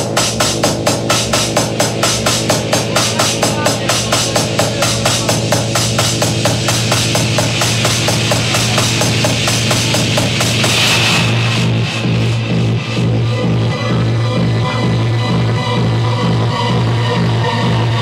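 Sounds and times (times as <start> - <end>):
fast dance drum beat: 0.0 - 18.0
held bass line: 0.0 - 18.0.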